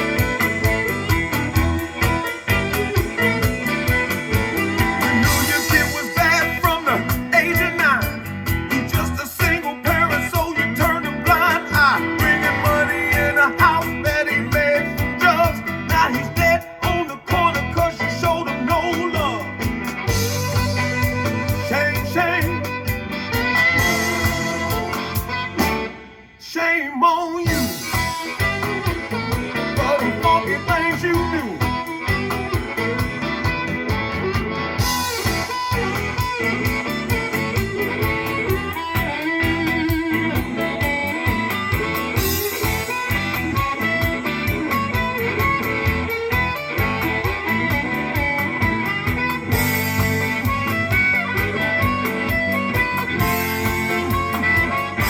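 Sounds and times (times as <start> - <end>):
bent electric guitar lead notes: 0.0 - 55.0
electric blues band music: 0.0 - 55.0.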